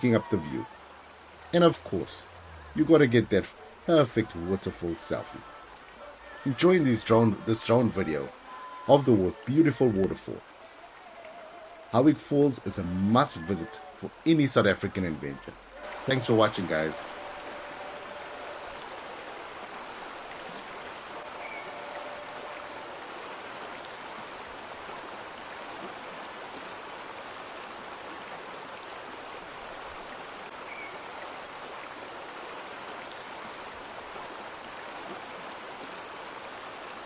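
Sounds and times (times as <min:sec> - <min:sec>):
flowing water rushing: 0:00.0 - 0:37.0.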